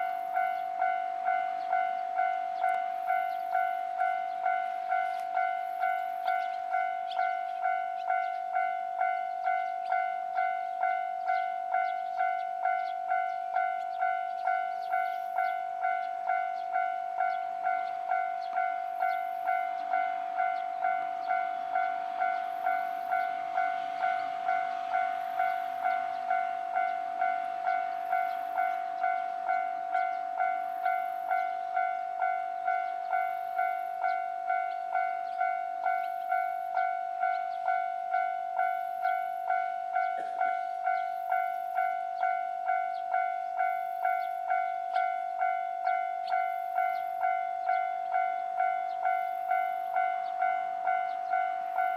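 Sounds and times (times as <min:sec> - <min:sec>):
level-crossing warning bell ringing: 0:00.0 - 0:51.9
train rumble: 0:00.0 - 0:51.9.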